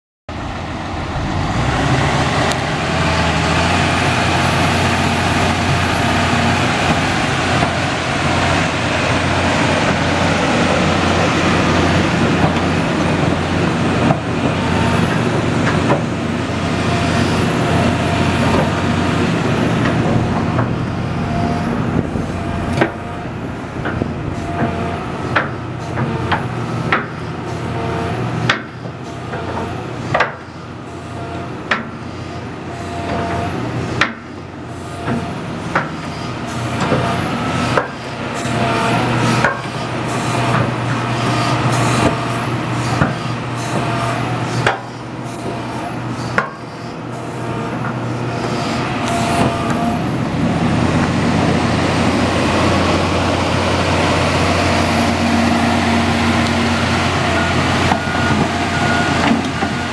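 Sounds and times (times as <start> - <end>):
diesel engine idling: 0.3 - 59.9.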